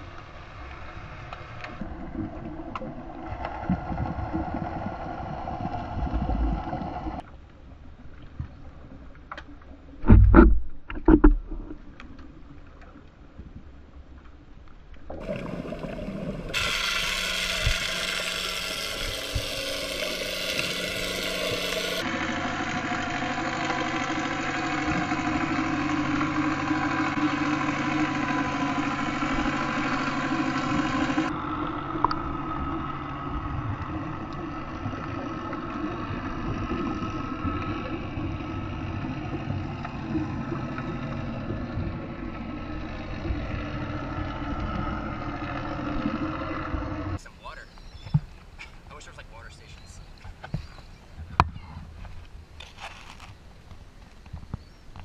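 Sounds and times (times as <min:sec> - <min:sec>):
boat engine hum underwater: 0:00.0 - 0:55.0.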